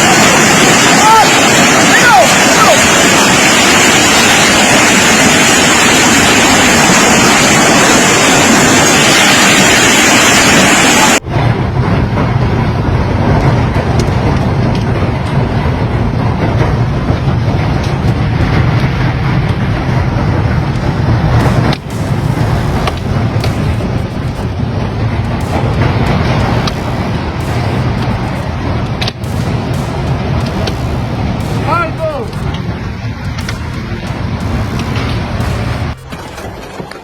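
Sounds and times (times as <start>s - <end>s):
rumbling storm roar: 0.0s - 36.1s
wind buffeting microphone: 0.0s - 36.9s
hail and rain pounding: 0.0s - 37.0s.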